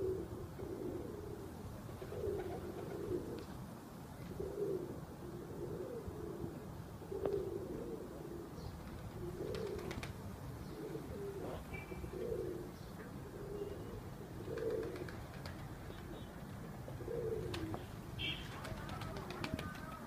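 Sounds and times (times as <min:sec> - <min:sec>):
pigeons cooing: 0:00.0 - 0:03.5, 0:04.2 - 0:20.0.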